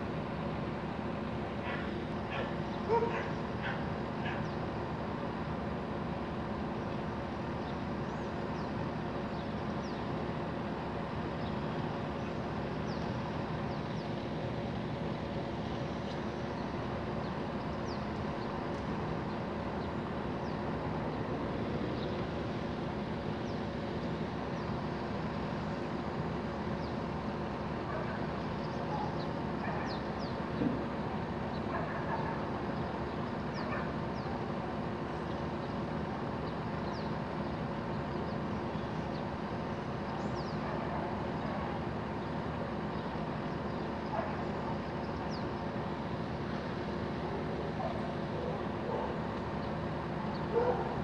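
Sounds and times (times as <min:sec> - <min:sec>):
background hum: 0:00.0 - 0:51.0.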